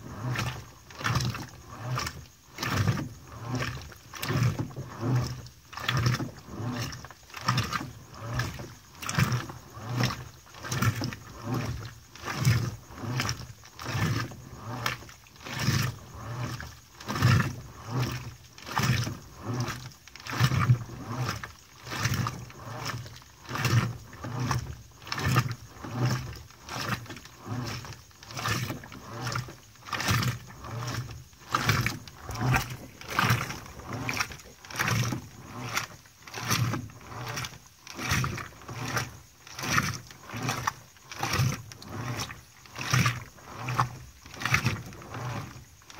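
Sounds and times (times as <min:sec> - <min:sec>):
washing machine sloshing: 0:00.0 - 0:45.9.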